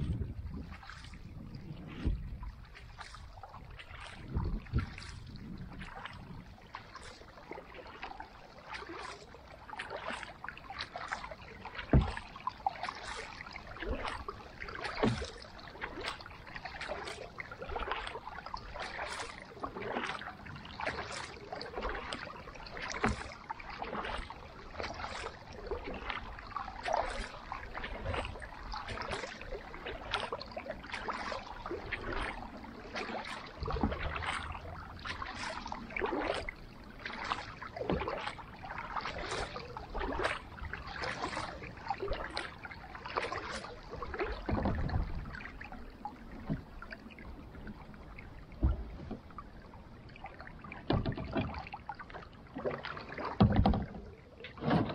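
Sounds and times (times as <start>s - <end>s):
paddle splashing in water: 0.0s - 54.9s
water running off paddle: 0.0s - 54.9s.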